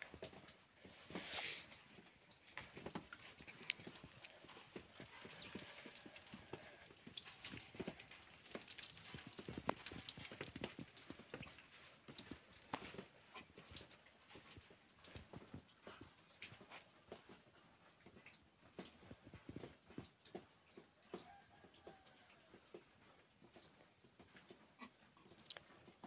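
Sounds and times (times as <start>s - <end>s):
hooves on stony ground: 0.0s - 26.0s.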